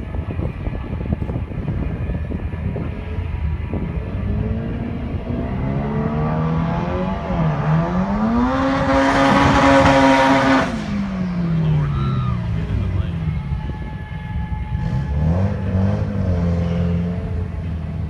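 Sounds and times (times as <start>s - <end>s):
drag car engine accelerating: 0.0s - 18.0s.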